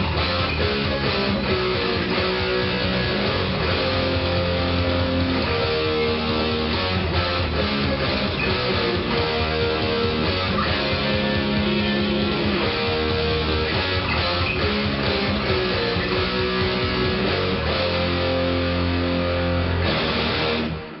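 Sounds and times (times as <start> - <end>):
bass guitar: 0.0 - 21.0
drums: 0.0 - 21.0
heavy metal electric guitar: 0.0 - 21.0.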